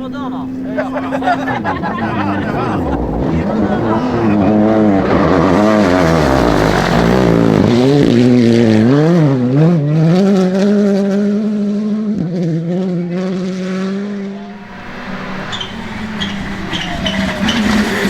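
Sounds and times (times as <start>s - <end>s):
rally car engine revving: 0.4s - 18.0s.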